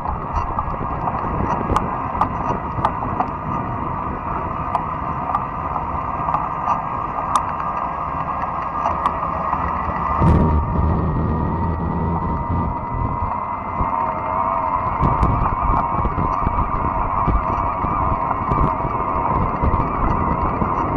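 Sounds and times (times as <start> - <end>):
bike tyres rolling on trail: 0.0 - 20.9
faint whine: 0.0 - 20.9.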